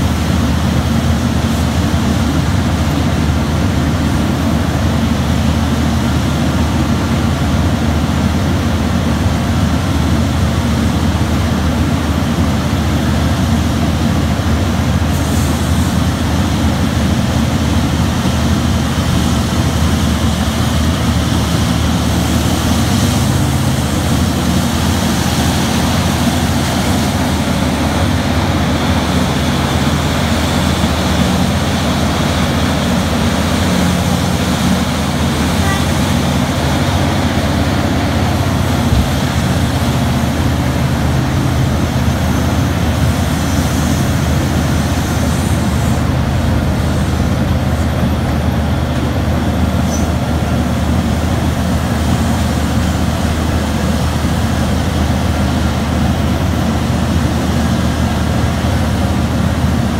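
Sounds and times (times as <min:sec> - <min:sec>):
diesel engine drone: 0:00.0 - 0:59.9
hydraulics working: 0:00.0 - 0:59.9.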